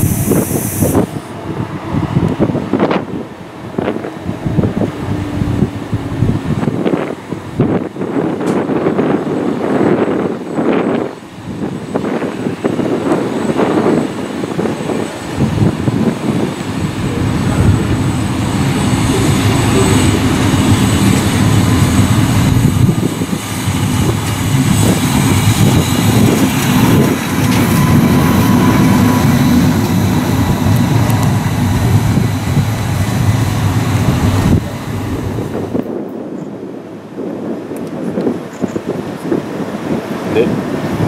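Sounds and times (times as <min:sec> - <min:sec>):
locomotive wheels rumbling: 0:00.0 - 0:36.3.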